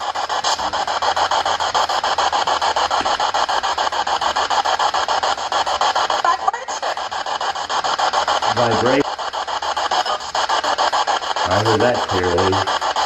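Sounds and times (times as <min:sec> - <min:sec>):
rasping static pulsing: 0:00.0 - 0:13.0.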